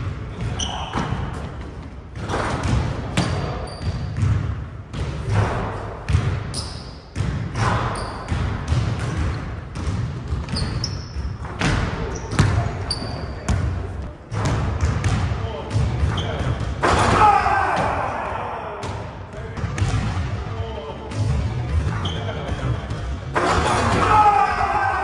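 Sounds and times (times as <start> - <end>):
basketballs bouncing on hardwood floor: 0.0 - 6.5, 7.1 - 20.4, 21.1 - 23.7.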